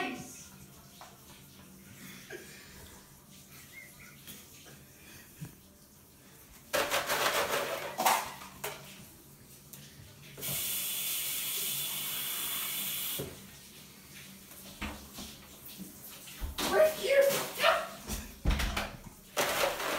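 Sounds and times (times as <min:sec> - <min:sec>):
faucet water running: 0:00.0 - 0:19.9.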